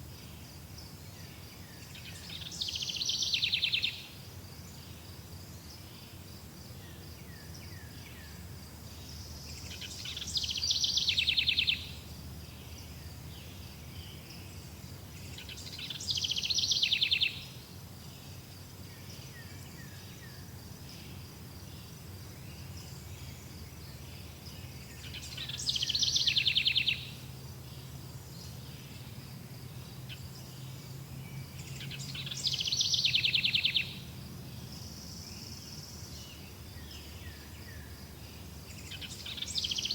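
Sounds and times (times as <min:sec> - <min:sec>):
faint bird chirps: 0:01.1 - 0:06.2, 0:06.8 - 0:39.9.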